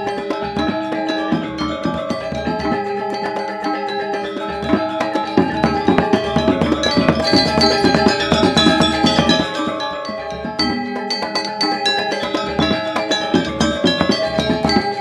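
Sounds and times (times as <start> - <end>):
gamelan metallophones playing: 0.0 - 15.0.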